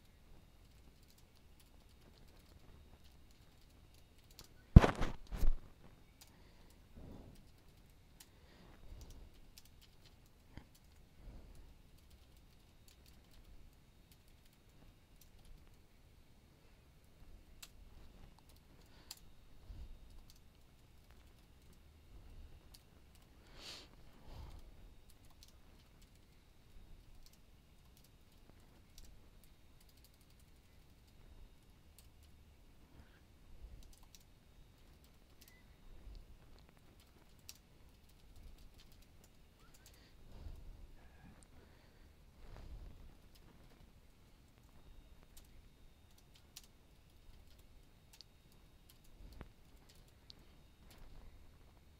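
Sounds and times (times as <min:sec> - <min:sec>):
faint keyboard typing: 0:00.0 - 0:16.0, 0:16.9 - 0:51.9.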